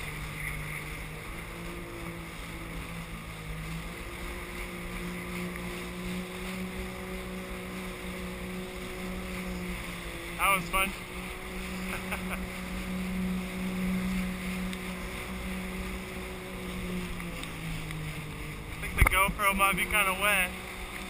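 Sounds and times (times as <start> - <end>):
rush of wind and water spray: 0.0 - 21.0
watercraft engine running: 0.0 - 21.0.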